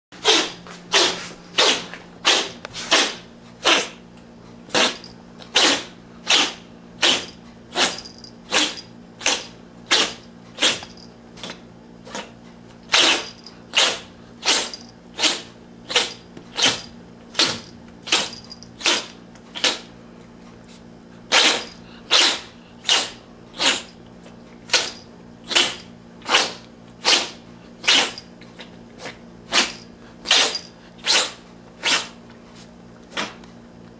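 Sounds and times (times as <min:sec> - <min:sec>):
cat sneezing: 0:00.2 - 0:04.0, 0:04.7 - 0:19.9, 0:21.3 - 0:23.9, 0:24.7 - 0:28.2, 0:29.0 - 0:32.2, 0:33.1 - 0:33.4.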